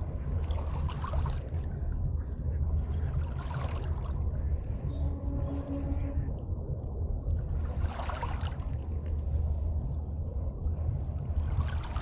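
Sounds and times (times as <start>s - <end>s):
small waves washing against shore: 0.0s - 6.3s, 7.3s - 9.9s, 10.8s - 12.0s
steady low rumble: 0.0s - 12.0s.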